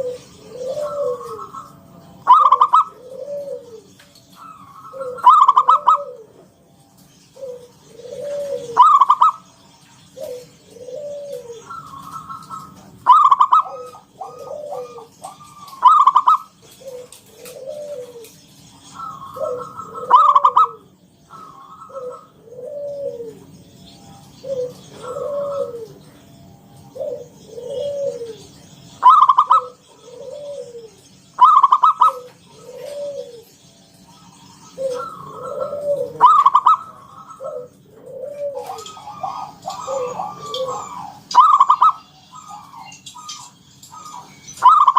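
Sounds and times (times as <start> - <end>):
dove cooing: 0.0 - 44.9
loud rolling bird trills: 0.0 - 44.9.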